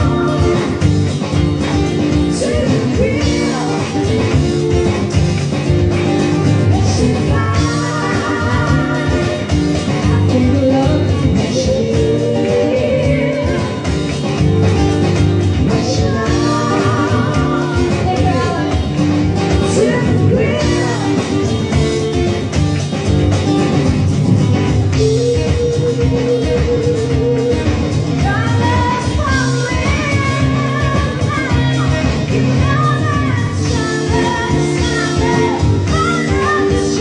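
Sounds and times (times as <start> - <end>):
woman singing: 0.0 - 22.4, 24.9 - 37.0
drum kit: 0.0 - 37.0
strummed guitar: 0.0 - 37.0.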